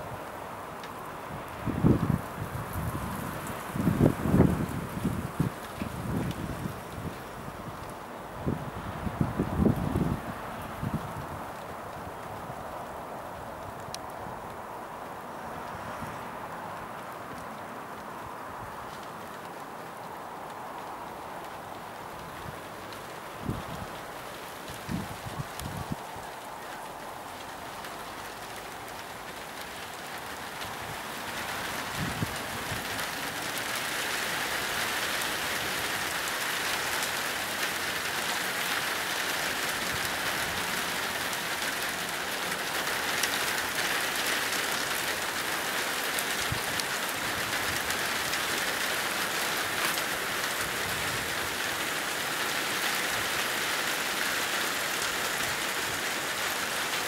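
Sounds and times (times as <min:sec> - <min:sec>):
rain falling: 0:00.0 - 0:57.0
sharp raindrops ticking: 0:00.0 - 0:57.0.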